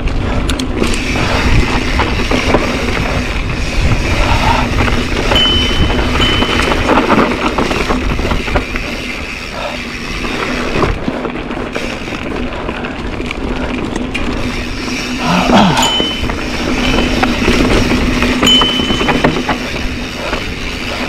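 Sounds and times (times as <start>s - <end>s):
bike rattling over bumps: 0.0s - 21.0s
tyres crunching over dirt: 0.0s - 21.0s.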